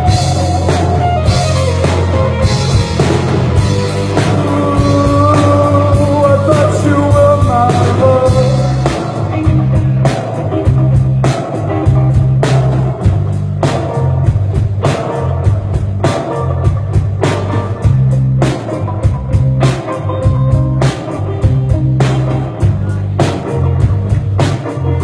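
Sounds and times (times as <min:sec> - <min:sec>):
bass notes: 0:00.0 - 0:25.0
electric guitar melody: 0:00.0 - 0:25.0.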